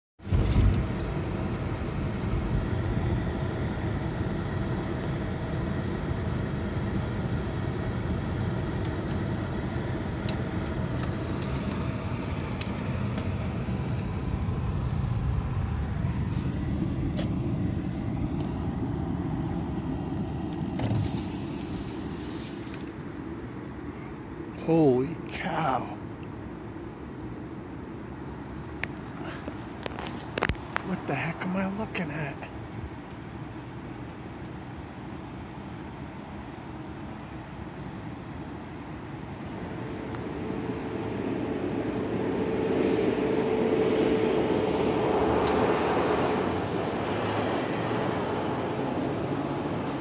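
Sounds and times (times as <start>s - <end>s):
car road and engine noise: 0.2s - 50.0s.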